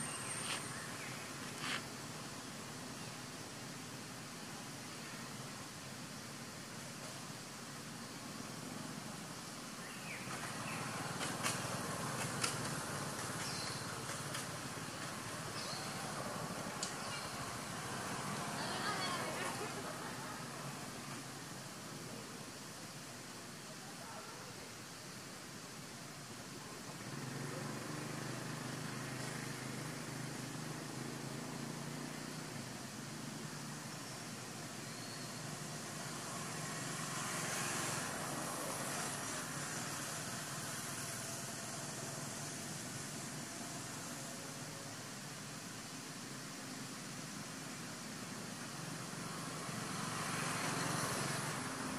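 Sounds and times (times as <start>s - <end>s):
background hiss: 0.0s - 51.9s.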